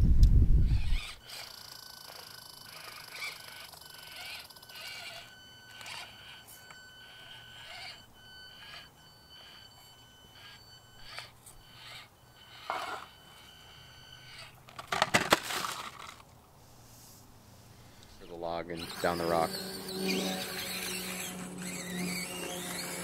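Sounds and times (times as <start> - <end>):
small electric motor whine: 0.4 - 15.0, 18.6 - 23.0.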